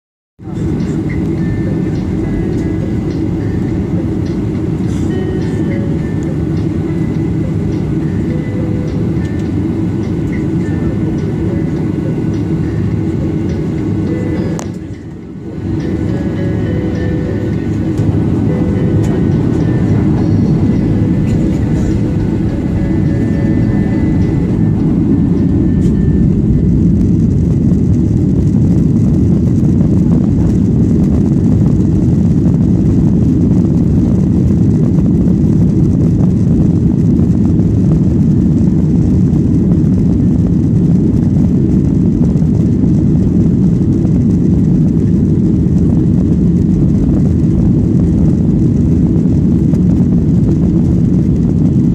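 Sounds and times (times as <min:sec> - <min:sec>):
airplane engines rumbling on takeoff: 0:00.4 - 0:51.9.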